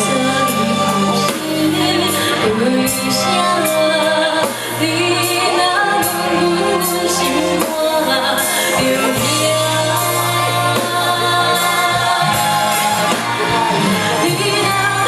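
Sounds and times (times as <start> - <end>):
live band music: 0.0 - 15.0
woman singing: 0.0 - 15.0.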